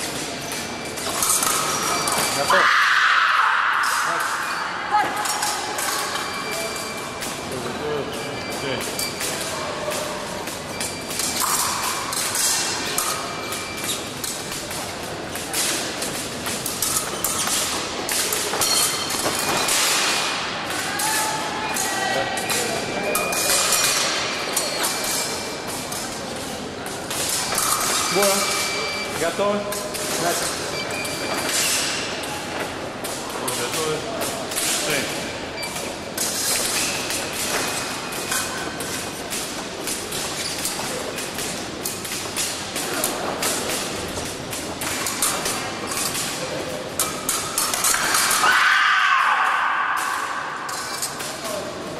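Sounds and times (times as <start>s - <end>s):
sports hall din: 0.0s - 51.9s.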